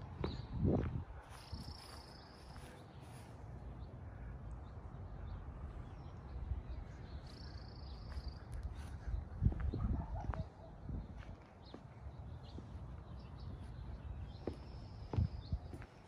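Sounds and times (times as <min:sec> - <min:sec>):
footsteps walking outdoors: 0:00.0 - 0:04.0, 0:05.5 - 0:16.0.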